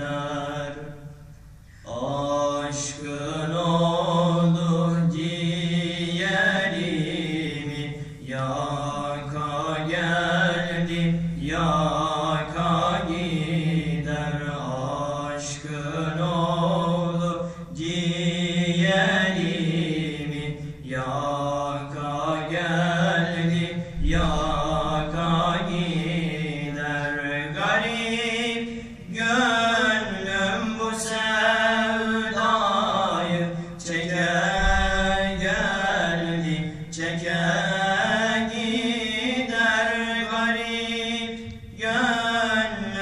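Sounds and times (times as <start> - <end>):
men singing a hymn unaccompanied: 0.0 - 43.0.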